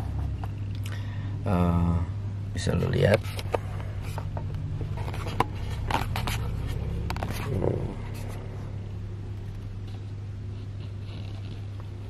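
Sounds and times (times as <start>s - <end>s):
car low hum: 0.0s - 12.0s.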